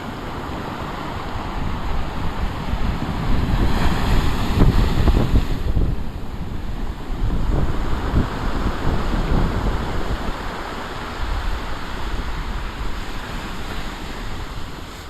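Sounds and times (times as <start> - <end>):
storm waves breaking: 0.0 - 15.0
wind buffeting microphone: 0.0 - 15.0.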